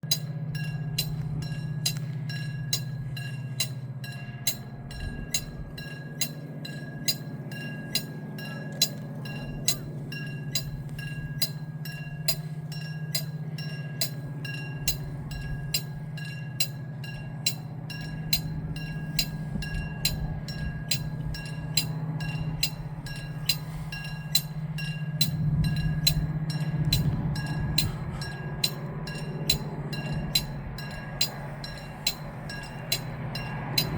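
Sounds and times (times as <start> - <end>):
level-crossing bell ringing: 0.0 - 33.9
steady low hum: 0.0 - 33.9.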